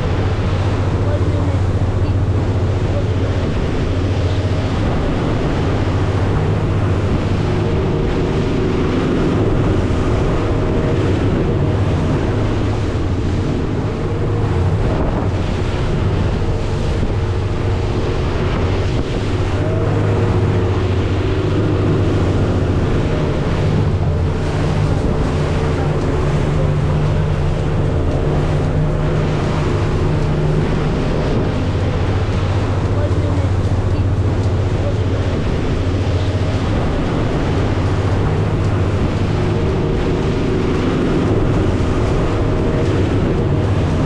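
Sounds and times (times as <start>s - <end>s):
motorboat engine humming: 0.0s - 44.0s
water rushing past hull: 0.0s - 44.0s
wind buffeting microphone: 0.0s - 44.0s.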